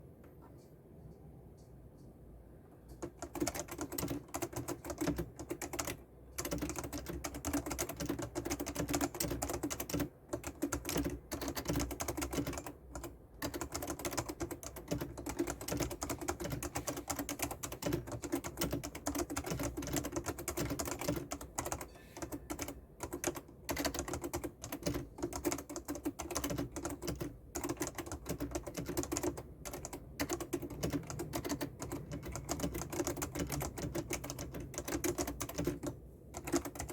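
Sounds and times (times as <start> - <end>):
fast typing on keyboard: 2.9 - 36.9.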